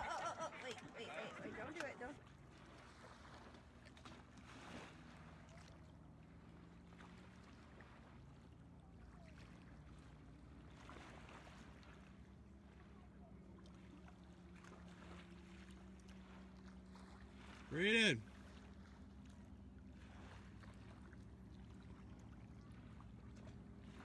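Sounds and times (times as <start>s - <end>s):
faint low engine hum: 0.0s - 24.0s.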